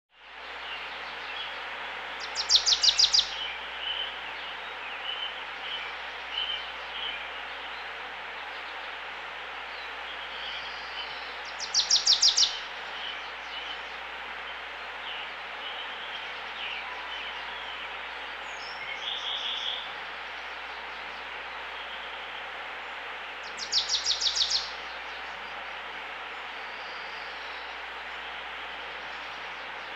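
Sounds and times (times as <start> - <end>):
background hiss: 0.2 - 29.9
birds chirping: 2.2 - 7.9, 9.8 - 29.9.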